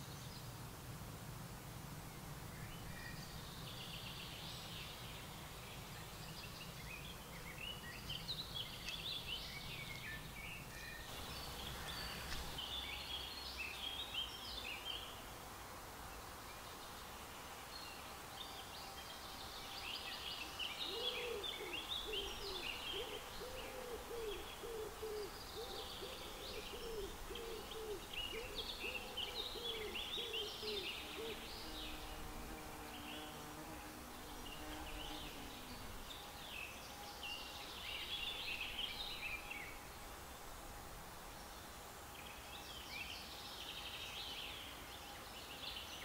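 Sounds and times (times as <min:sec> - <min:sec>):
faint outdoor rumble: 0:00.0 - 0:46.0
songbirds singing: 0:02.0 - 0:46.0.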